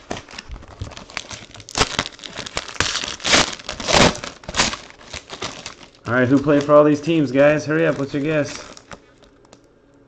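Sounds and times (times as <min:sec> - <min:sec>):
plastic wrapper crinkling: 0:00.0 - 0:09.7.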